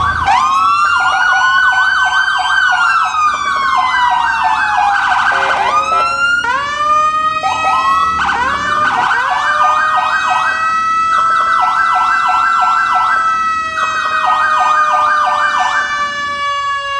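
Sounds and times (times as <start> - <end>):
fast siren yelp: 0.0 - 16.9
police sirens wailing: 0.0 - 16.9.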